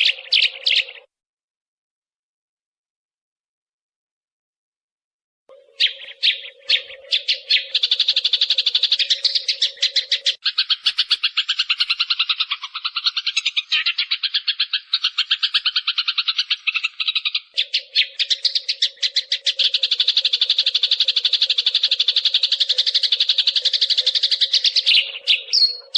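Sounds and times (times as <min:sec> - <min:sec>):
sparrows chirping: 0:00.0 - 0:01.1, 0:05.5 - 0:25.9.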